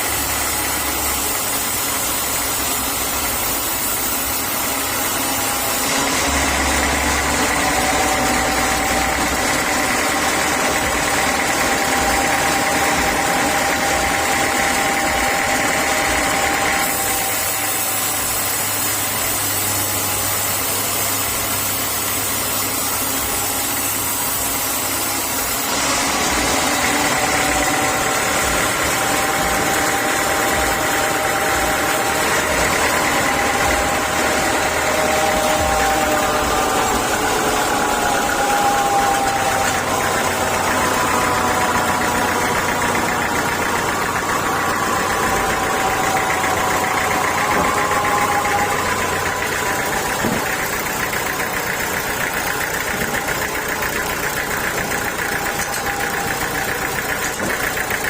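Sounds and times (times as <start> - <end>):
sawmill saw humming and whining: 0.0 - 58.0.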